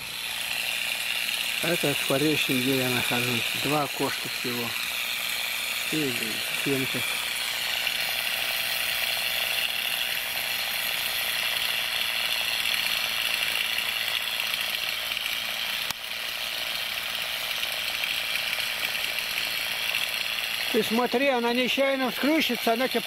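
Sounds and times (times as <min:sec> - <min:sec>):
string trimmer cutting grass: 0:00.0 - 0:23.0.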